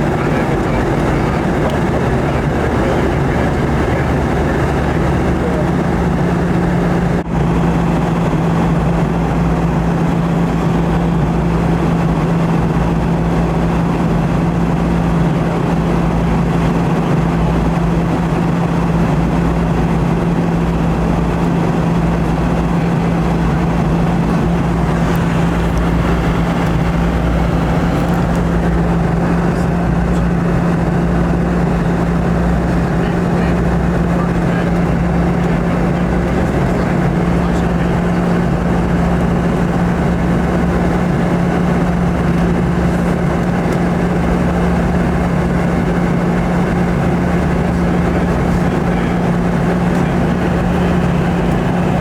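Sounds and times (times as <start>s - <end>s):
jet cabin rushing noise: 0.0s - 7.3s, 14.8s - 52.0s
low engine hum: 0.0s - 52.0s.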